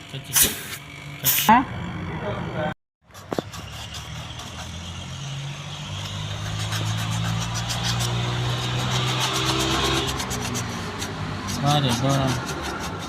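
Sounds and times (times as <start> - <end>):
motor humming and hissing: 0.0 - 13.0.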